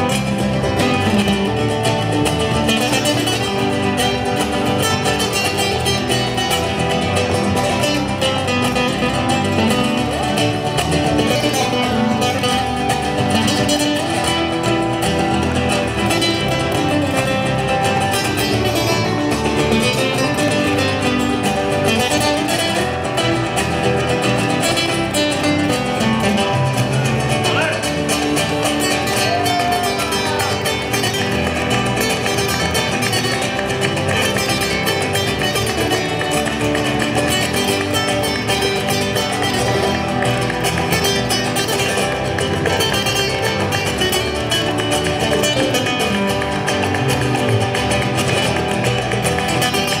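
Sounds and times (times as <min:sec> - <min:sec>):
acoustic guitars playing: 0:00.0 - 0:50.0.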